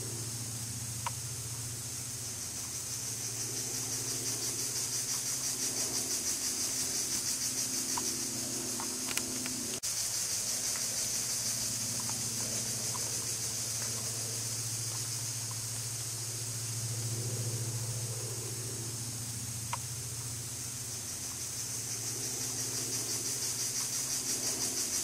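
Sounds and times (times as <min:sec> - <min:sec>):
insects buzzing: 0:00.0 - 0:25.0
low steady hum: 0:00.0 - 0:25.0.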